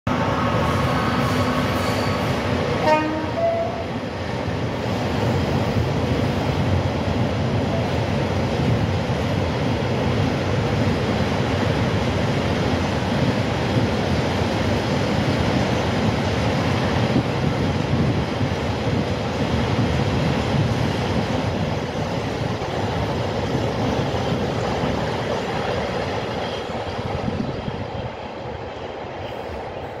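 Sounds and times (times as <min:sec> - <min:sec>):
train wheels rumbling on rail: 0:00.1 - 0:30.0.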